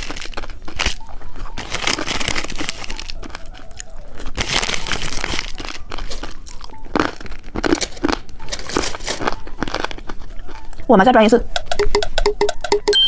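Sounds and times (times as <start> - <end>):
popping candy crackling: 0.0 - 13.0.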